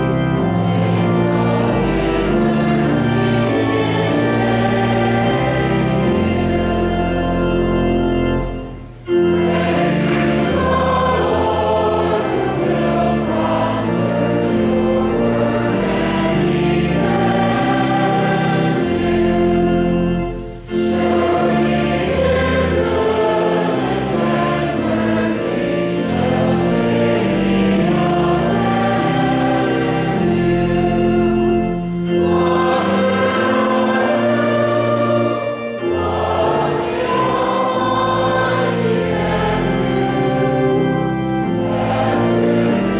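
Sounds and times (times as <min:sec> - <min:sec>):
choir and congregation singing hymn: 0:00.0 - 0:42.9
organ accompaniment: 0:00.0 - 0:42.9.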